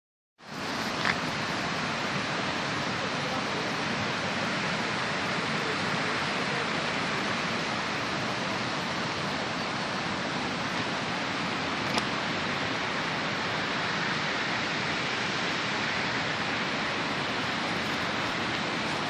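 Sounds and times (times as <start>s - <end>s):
steady rushing noise: 0.4s - 19.0s.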